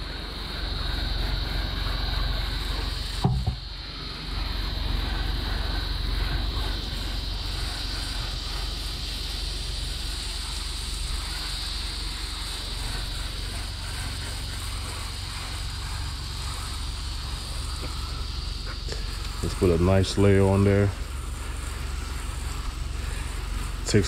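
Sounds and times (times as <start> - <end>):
spray gun hissing: 0.0 - 24.0.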